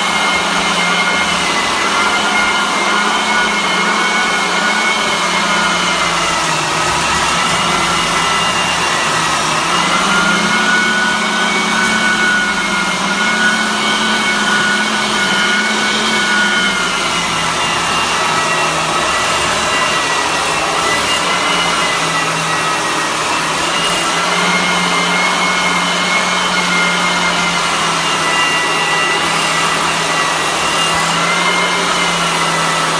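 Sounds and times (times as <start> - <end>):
floor sanding machine whine: 0.0 - 32.9.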